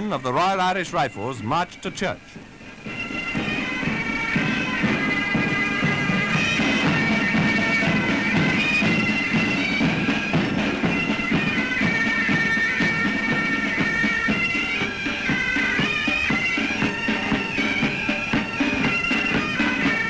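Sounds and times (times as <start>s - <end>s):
bagpipes playing a tune: 0.0s - 20.0s.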